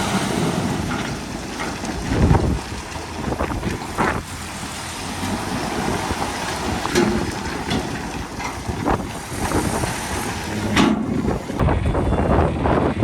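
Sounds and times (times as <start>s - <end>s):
construction machinery engine rumble: 0.0s - 11.6s
wind on microphone: 0.0s - 13.0s
short knocks: 0.1s - 11.6s.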